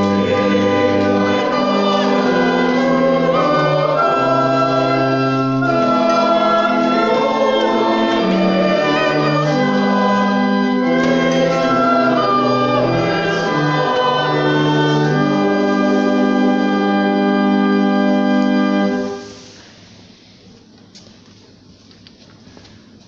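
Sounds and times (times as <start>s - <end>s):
congregation singing a hymn: 0.0s - 19.4s
organ chords: 0.0s - 19.5s.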